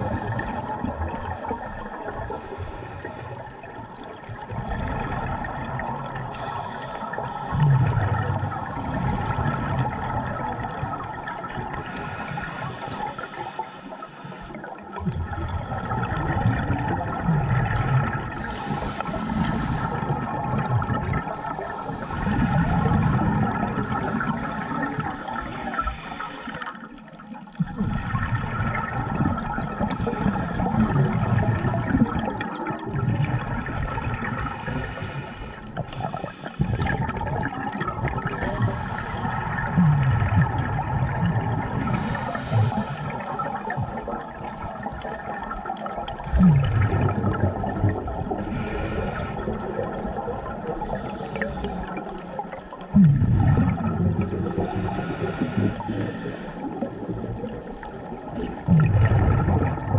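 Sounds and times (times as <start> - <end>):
exhaled bubbles underwater: 0.0 - 59.9.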